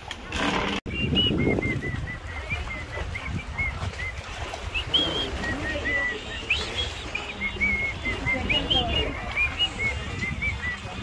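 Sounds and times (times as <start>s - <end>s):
birds chirping: 0.9s - 11.0s.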